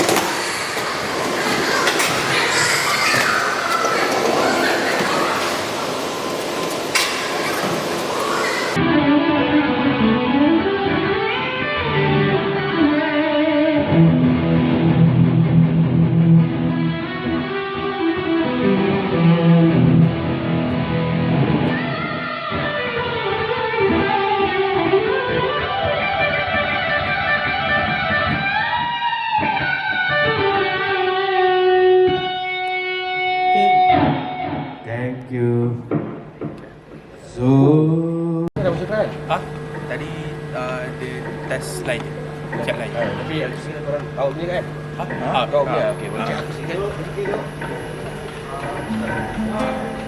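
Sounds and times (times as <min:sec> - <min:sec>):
electric guitar through amplifier: 0:00.0 - 0:50.0.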